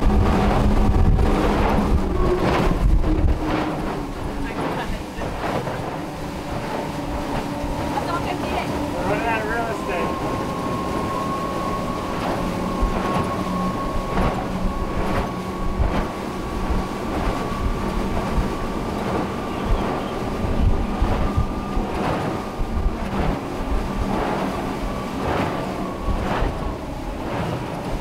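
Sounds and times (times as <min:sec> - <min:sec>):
hull thudding on waves: 0:00.0 - 0:28.0
outboard engines whining: 0:00.0 - 0:28.0
rumble of hull and water: 0:00.0 - 0:28.0.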